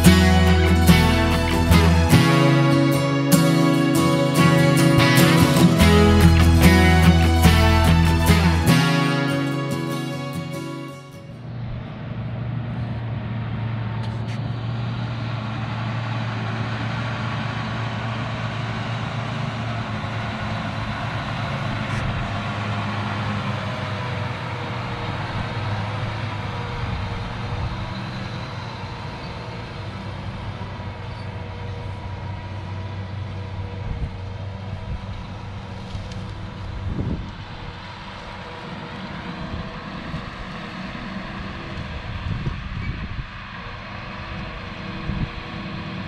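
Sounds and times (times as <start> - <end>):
tractor diesel engine passing: 0.0 - 46.0.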